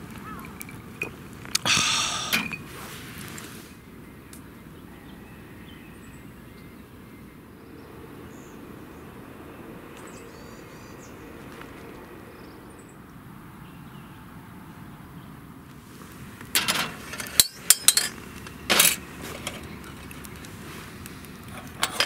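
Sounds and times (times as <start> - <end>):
distant road traffic hum: 0.0 - 22.0.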